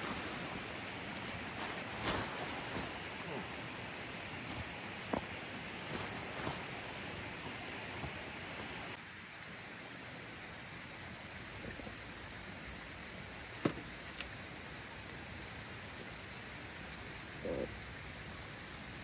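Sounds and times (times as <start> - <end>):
stream rushing: 0.0 - 19.0.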